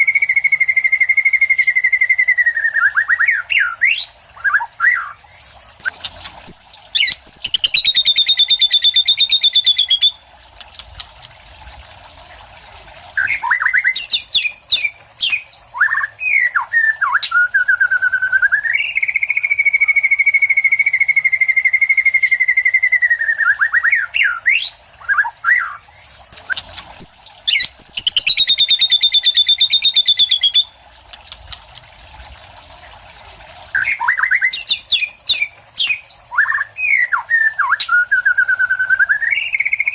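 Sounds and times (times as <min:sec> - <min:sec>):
bird singing whistled phrases: 0:00.0 - 0:05.2, 0:05.8 - 0:10.2, 0:13.2 - 0:30.8, 0:33.7 - 0:39.9.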